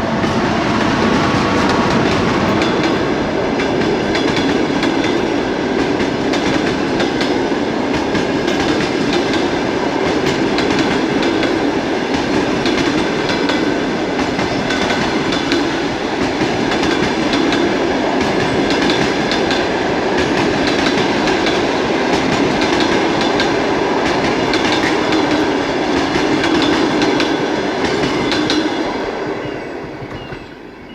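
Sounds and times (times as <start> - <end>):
train rolling past at speed: 0.0 - 30.9.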